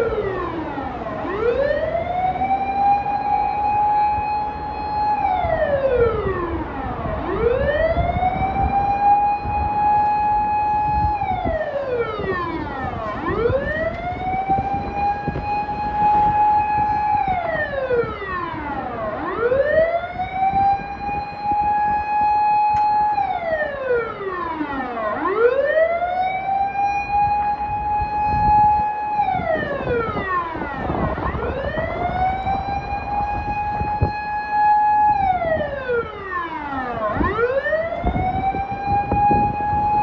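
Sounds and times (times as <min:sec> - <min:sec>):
vehicle siren wailing: 0:00.0 - 0:40.0.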